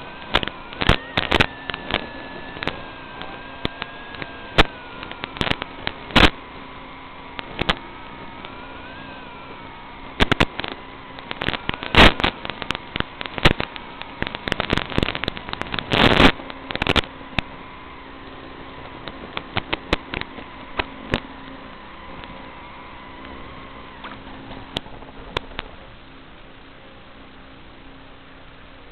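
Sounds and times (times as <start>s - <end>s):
sharp radio crackles: 0.0s - 18.1s, 18.7s - 26.0s.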